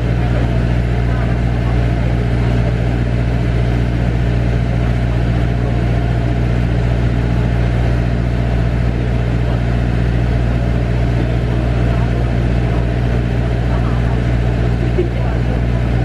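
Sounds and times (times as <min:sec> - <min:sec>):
loud low engine drone: 0:00.0 - 0:16.0.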